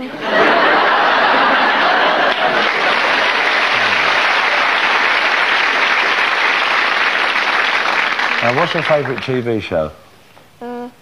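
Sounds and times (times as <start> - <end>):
audience applauding: 0.5 - 9.7.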